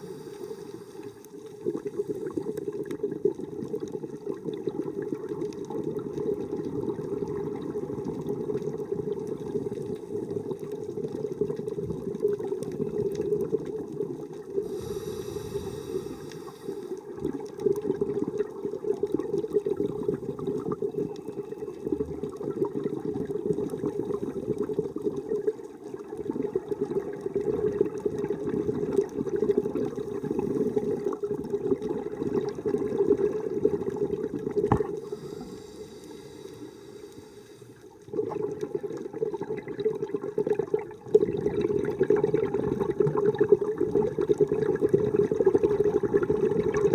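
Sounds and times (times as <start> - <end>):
water rushing underwater: 0.0 - 46.9.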